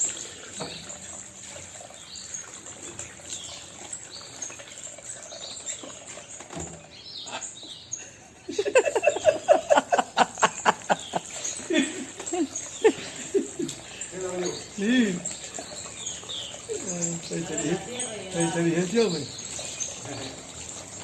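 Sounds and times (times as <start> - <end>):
bird chirping: 1.8 - 21.0.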